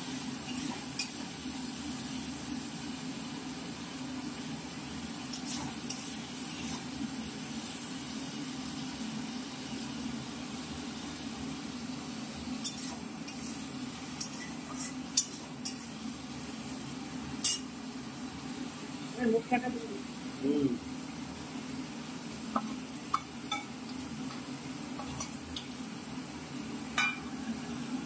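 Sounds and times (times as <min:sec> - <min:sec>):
tomatoes sizzling in hot oil: 0:00.0 - 0:28.0.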